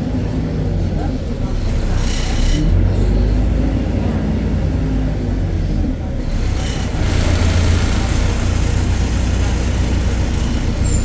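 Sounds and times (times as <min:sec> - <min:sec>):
diesel bus engine droning: 0:00.0 - 0:11.0.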